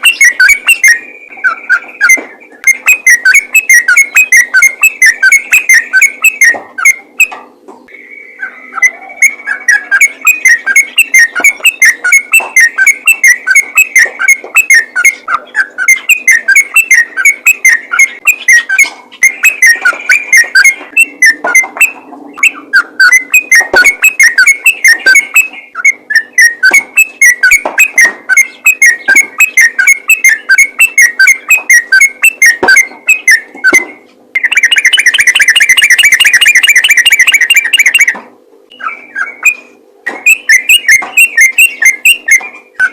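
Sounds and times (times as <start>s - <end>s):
bulbul singing whistled notes: 0.0s - 7.3s, 7.9s - 42.9s.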